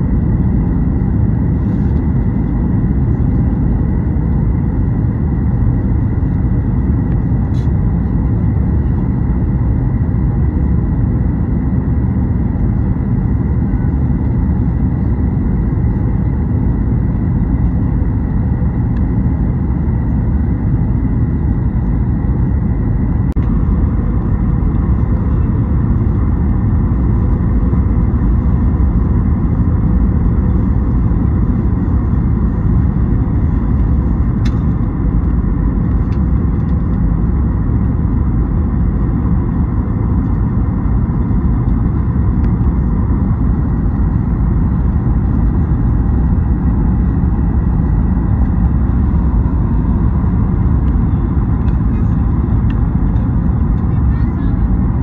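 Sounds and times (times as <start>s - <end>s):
aircraft cabin engine rumble: 0.0s - 55.0s
faint steady hum: 0.0s - 55.0s.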